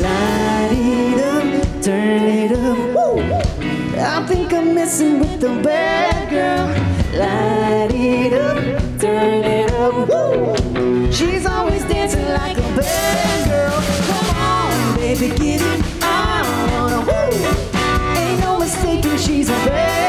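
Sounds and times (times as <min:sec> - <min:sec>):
disco band playing: 0:00.0 - 0:20.0
woman singing lead: 0:00.0 - 0:20.0.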